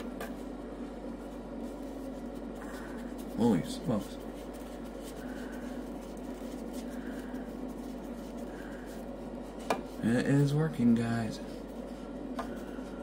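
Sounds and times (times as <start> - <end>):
cotton candy machine humming: 0.0 - 13.0.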